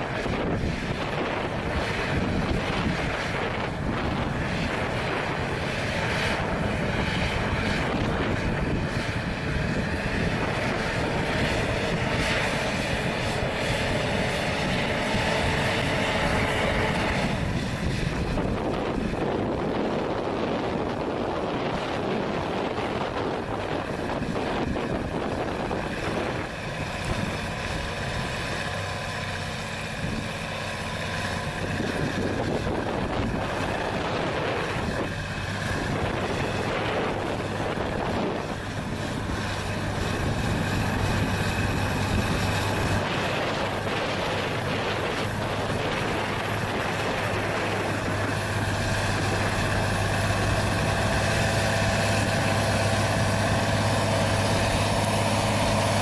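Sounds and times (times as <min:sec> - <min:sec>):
heavy vehicle engine humming: 0:00.0 - 0:56.0.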